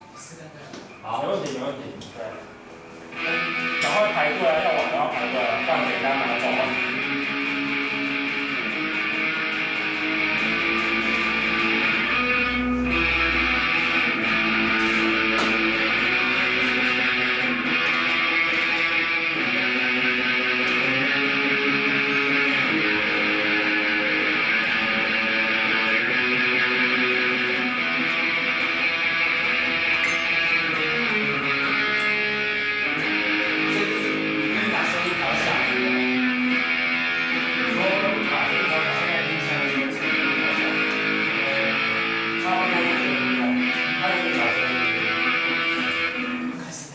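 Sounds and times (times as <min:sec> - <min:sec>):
distorted electric guitar: 0:02.4 - 0:46.7.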